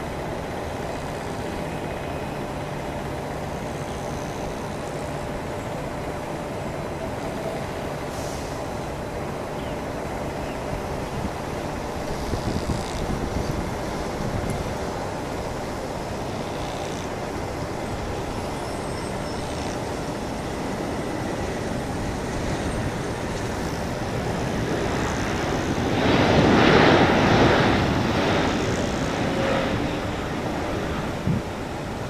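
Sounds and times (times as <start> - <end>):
distant jet engine roar: 0.0 - 32.0.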